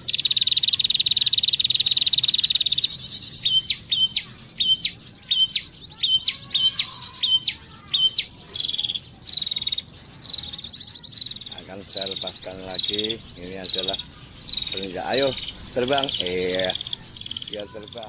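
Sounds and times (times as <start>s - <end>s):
bird song buzzing trill: 0.0s - 18.0s.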